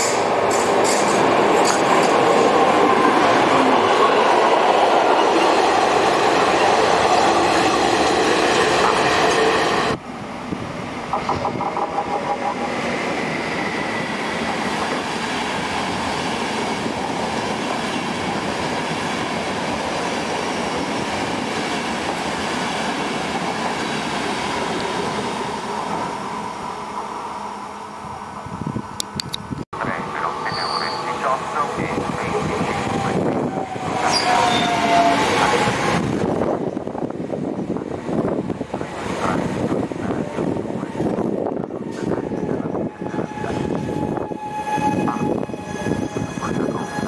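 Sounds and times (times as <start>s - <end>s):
electric passenger train rumbling: 0.0s - 47.0s.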